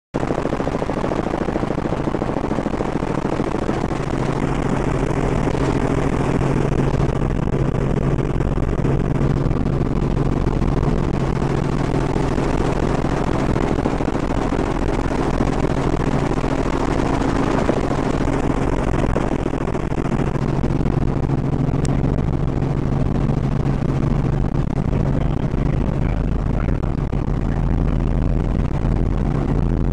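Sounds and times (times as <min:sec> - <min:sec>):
helicopter engine and rotor drone: 0:00.2 - 0:29.9.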